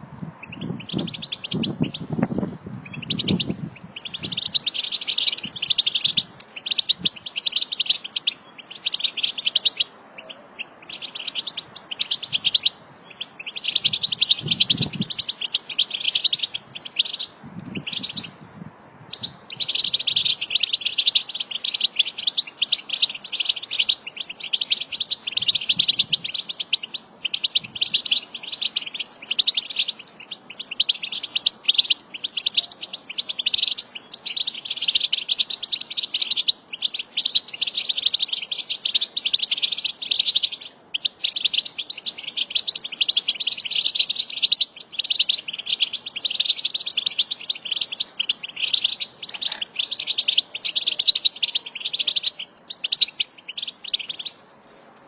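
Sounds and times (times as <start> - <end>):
goldfinch twittering song: 0.4 - 2.2, 2.8 - 18.4, 19.1 - 54.4.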